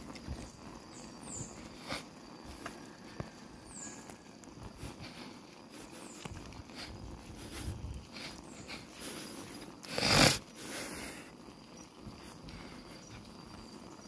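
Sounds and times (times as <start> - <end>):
bicycle rattles and clicks: 0.0 - 14.0
bicycle tyre rumble: 0.0 - 14.0.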